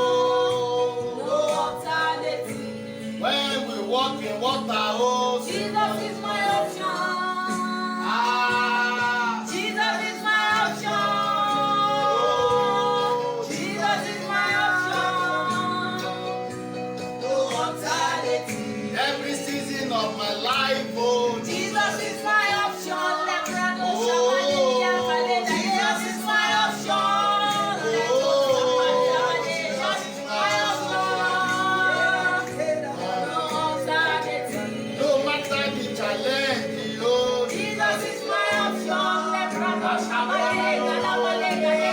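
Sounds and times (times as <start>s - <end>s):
sustained instrumental backing: 0.0s - 41.9s
woman singing: 0.0s - 41.9s.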